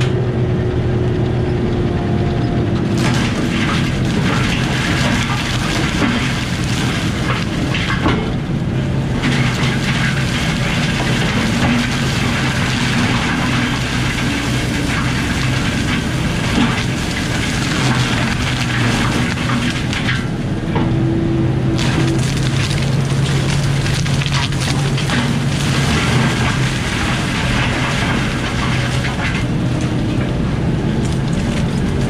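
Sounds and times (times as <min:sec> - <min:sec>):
diesel engine under load: 0:00.0 - 0:32.0
mulcher grinding brush: 0:02.7 - 0:20.5, 0:21.6 - 0:32.0.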